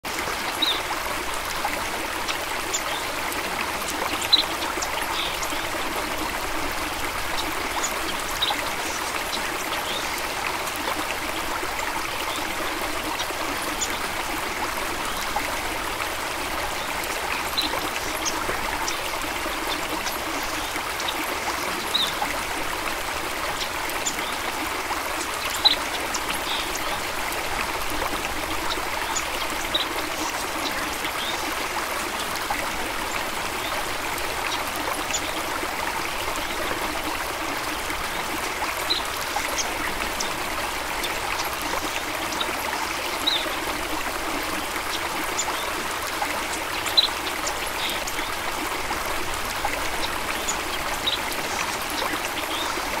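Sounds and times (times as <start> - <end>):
stream trickling over stones: 0.0 - 53.0.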